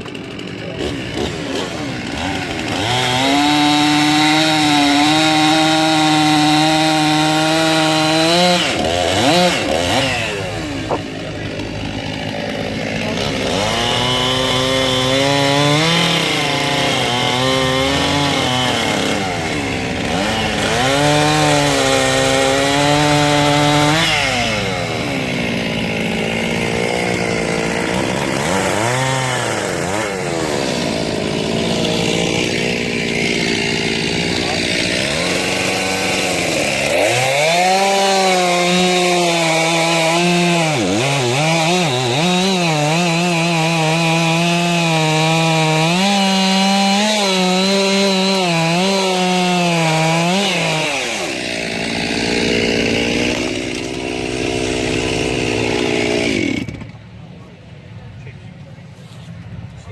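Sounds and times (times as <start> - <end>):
circular saw blade cutting logs: 0.0 - 57.1.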